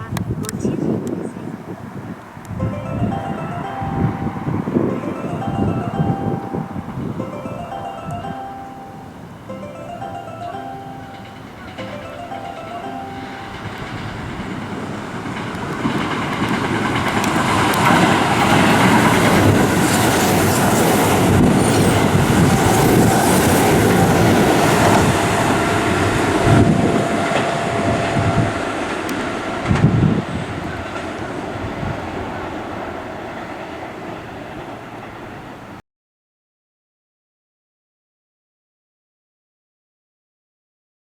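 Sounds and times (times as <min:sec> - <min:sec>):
electric train passing: 0:01.7 - 0:35.8
wheels clacking over rail joints: 0:02.8 - 0:35.8.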